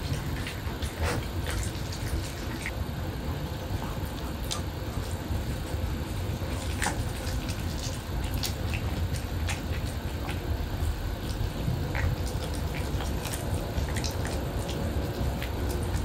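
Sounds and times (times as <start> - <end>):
dog chewing food: 0.0 - 16.0
low background hum: 0.0 - 16.0.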